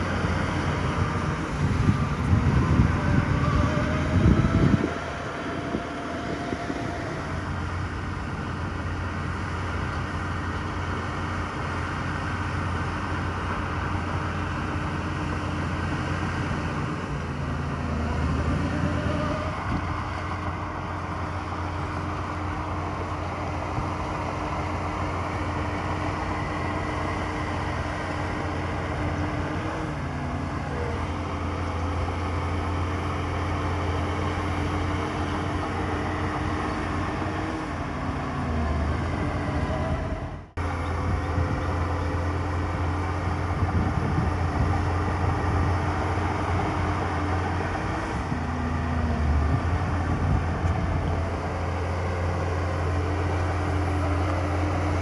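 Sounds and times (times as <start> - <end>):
diesel engine of heavy machinery: 0.0 - 55.0.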